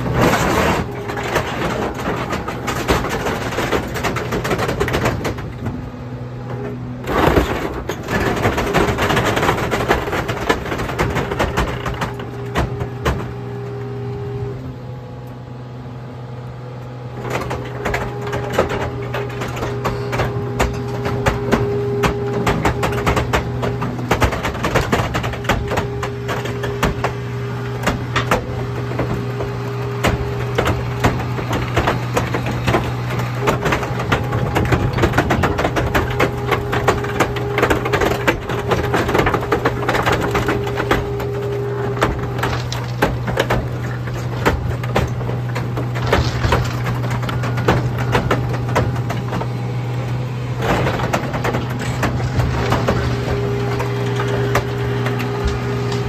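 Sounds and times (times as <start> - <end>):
scrap metal crunching: 0.0 - 14.8, 17.0 - 56.0
hydraulic pump hum: 0.0 - 56.0.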